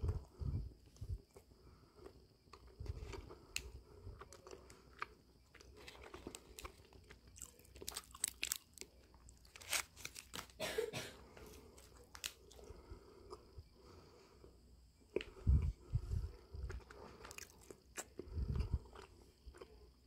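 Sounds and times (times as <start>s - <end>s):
crunchy cookie chewing: 0.0s - 10.6s, 11.2s - 20.0s.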